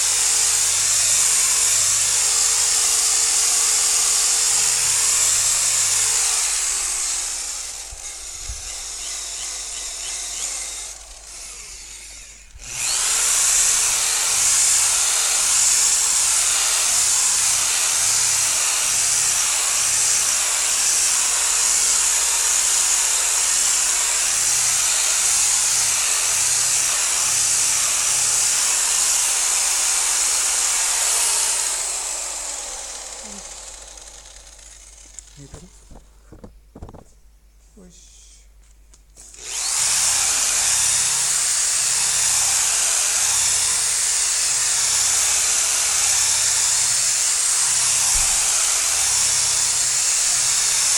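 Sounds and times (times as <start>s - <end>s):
electric car polisher buffing: 0.0s - 37.0s, 39.2s - 50.9s.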